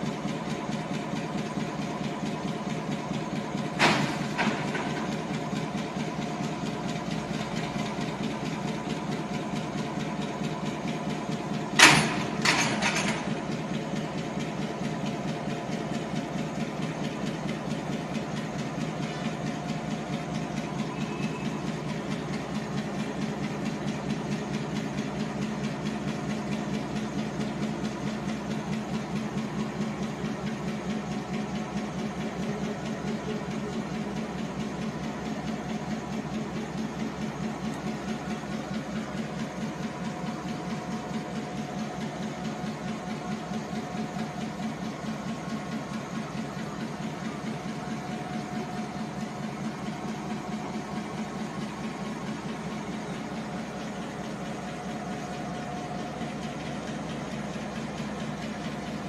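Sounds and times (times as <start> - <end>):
diesel locomotive engine idling: 0.0 - 59.0.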